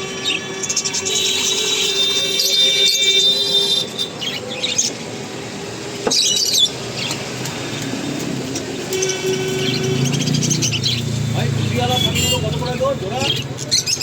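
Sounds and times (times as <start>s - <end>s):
parrots chirping and squawking: 0.2s - 14.0s.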